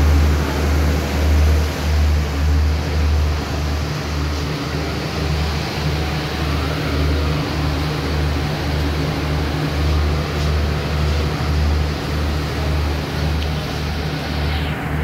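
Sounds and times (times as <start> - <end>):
train coach running noise: 0.0 - 15.0.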